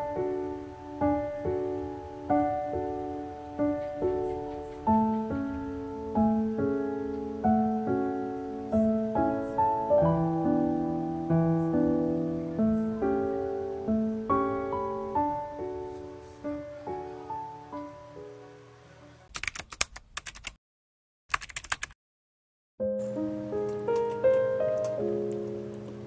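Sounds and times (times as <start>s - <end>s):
gentle piano music: 0.0s - 19.3s, 22.8s - 26.0s.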